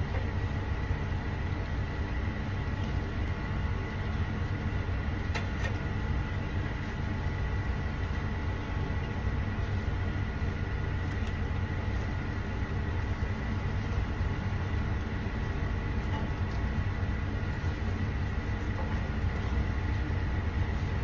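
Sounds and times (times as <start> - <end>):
low rumbling hum: 0.0 - 21.0.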